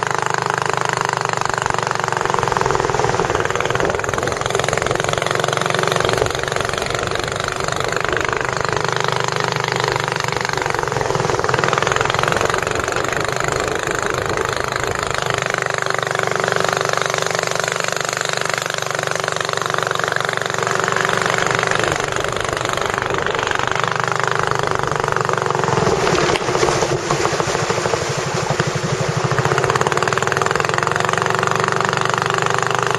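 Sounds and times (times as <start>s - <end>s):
engine chugging: 0.0s - 32.9s.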